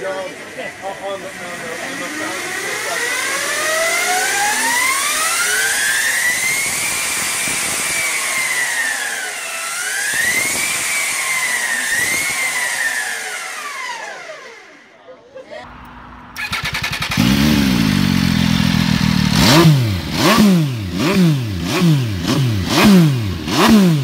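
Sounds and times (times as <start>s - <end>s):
electric motorcycle motor whining: 0.0s - 14.8s, 16.4s - 24.0s.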